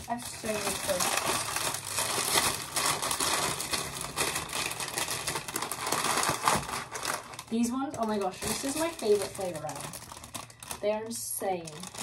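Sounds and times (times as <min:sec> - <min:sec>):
plastic snack bags crinkling: 0:00.0 - 0:12.0.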